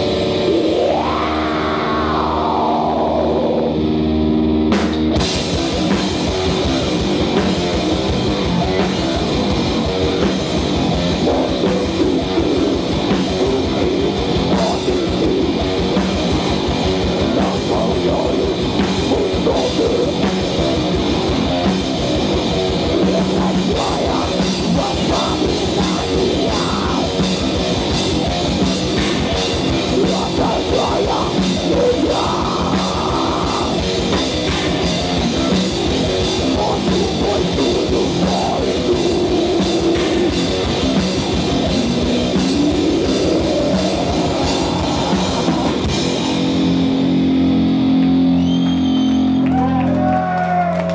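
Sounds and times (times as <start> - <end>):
electric guitars: 0.0 - 50.9
fast drum-kit playing: 0.0 - 50.9.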